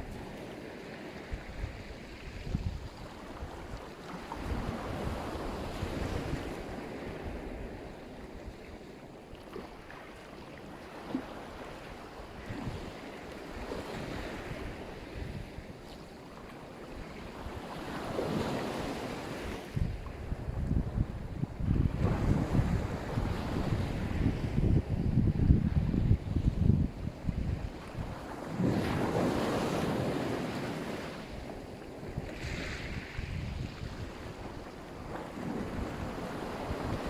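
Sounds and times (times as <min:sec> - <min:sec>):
wind buffeting microphone: 0:00.0 - 0:08.6, 0:12.2 - 0:15.9, 0:17.0 - 0:37.0
waves breaking: 0:00.0 - 0:24.8, 0:26.8 - 0:37.0.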